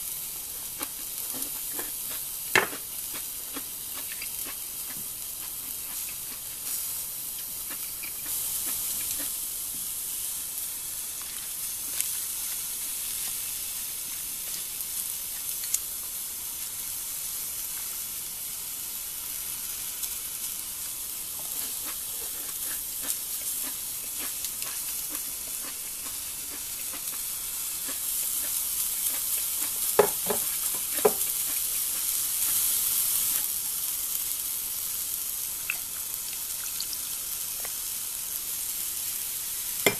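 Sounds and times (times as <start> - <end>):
vegetables sizzling in skillet: 0.0 - 39.9.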